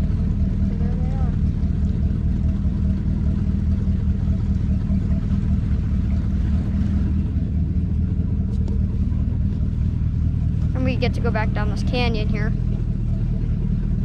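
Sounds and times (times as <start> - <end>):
motorboat engine droning: 0.0 - 14.0.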